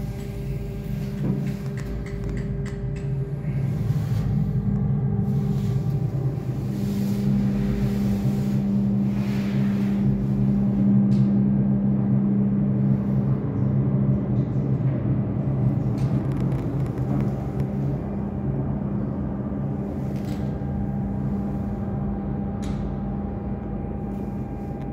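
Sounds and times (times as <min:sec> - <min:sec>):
machinery humming: 0:00.0 - 0:24.9.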